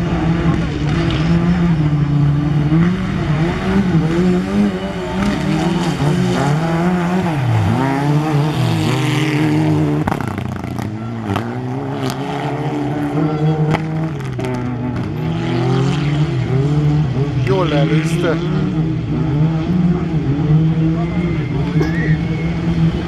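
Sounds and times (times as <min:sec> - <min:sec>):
rally car engine at high revs: 0:00.0 - 0:23.0.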